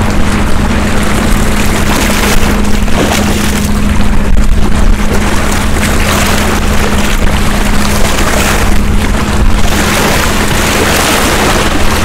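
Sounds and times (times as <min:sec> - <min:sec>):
low steady hum: 0:00.0 - 0:12.0
waves splashing against rocks: 0:00.0 - 0:12.0
wind on microphone: 0:00.0 - 0:12.0.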